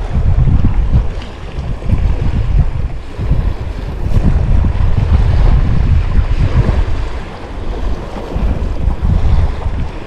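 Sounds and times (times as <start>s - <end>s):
sea waves washing against wall: 0.0s - 10.0s
wind buffeting microphone: 0.0s - 10.0s.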